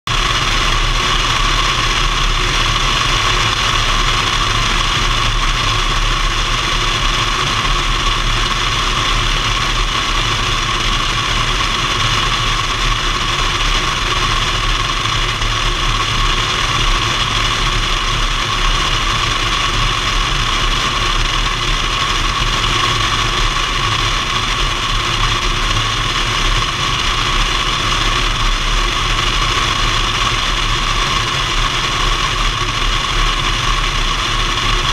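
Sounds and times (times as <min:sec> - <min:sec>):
airplane engine and propeller drone: 0:00.1 - 0:34.9.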